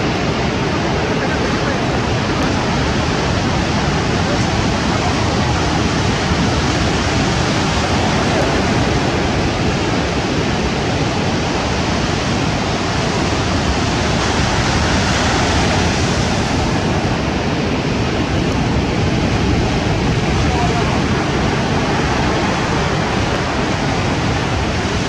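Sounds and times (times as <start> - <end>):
surf washing up pebble beach: 0.0 - 25.0.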